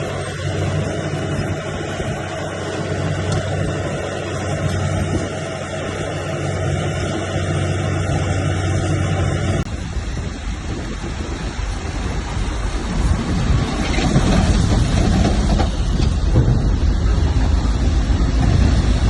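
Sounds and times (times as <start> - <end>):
diesel machine engine: 0.0 - 19.0
rough low rumble: 0.0 - 19.0.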